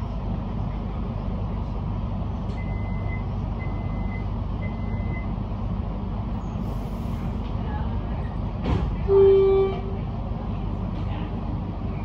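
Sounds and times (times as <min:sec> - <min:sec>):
train low hum: 0:00.0 - 0:12.0.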